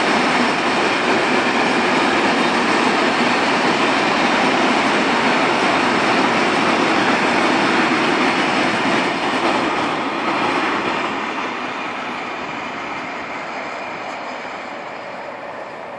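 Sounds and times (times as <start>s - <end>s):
train wheels on rails: 0.0s - 15.9s.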